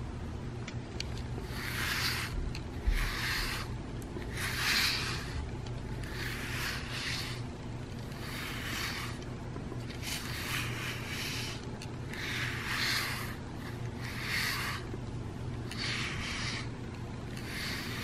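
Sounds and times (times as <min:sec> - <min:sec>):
brush strokes through cat fur: 0:01.1 - 0:18.0.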